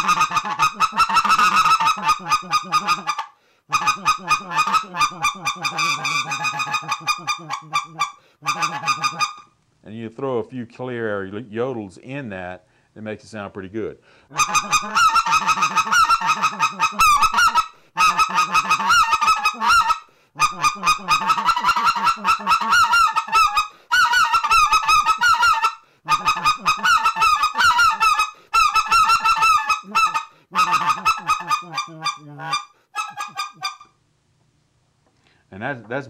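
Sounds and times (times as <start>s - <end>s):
goose call clucks and yodels: 0.0s - 9.5s, 14.3s - 34.0s.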